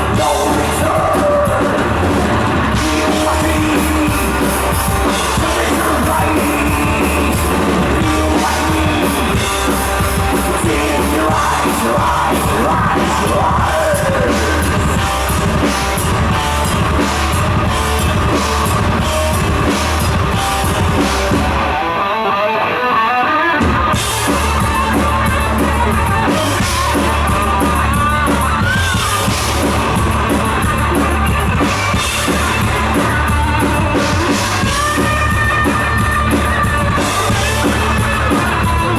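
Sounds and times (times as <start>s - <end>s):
distorted guitar: 0.0s - 38.9s
metal band playing live: 0.0s - 38.9s.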